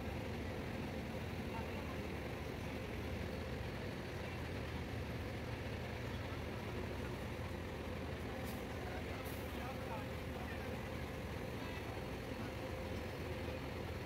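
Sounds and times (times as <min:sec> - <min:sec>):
bus diesel engine rumbling: 0:00.0 - 0:14.0.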